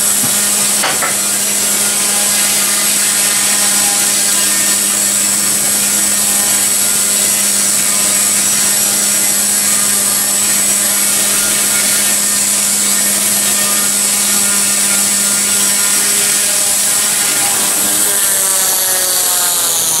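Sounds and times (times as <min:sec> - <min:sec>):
high electric motor whine: 0:00.0 - 0:20.0
toy helicopter rotor hum: 0:00.0 - 0:20.0.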